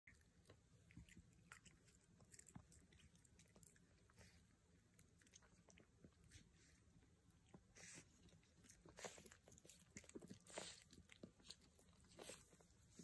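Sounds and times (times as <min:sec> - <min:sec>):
puppy crunching a carrot: 0:00.1 - 0:06.7, 0:07.4 - 0:13.0.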